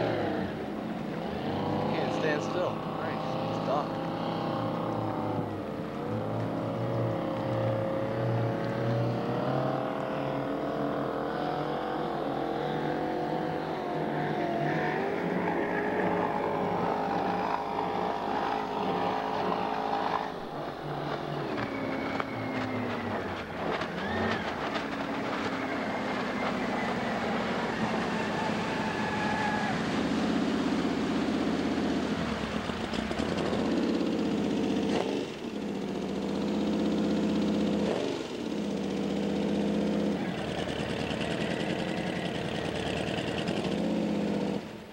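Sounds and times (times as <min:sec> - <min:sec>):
boat engine running: 0:00.0 - 0:11.0, 0:13.2 - 0:44.8.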